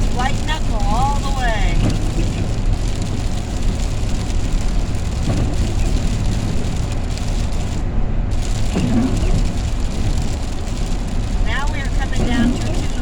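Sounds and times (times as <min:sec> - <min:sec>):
engine and road rumble: 0:00.0 - 0:13.0
rain hissing on vehicle: 0:00.0 - 0:13.0.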